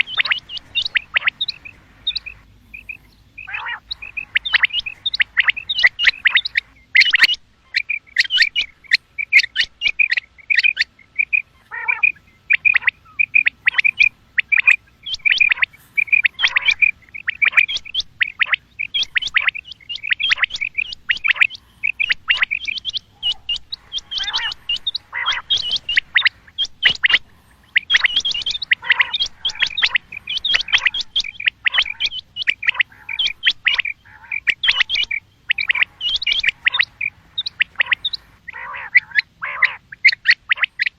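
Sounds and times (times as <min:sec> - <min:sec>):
quail calling with high chirps: 0:00.0 - 0:40.9.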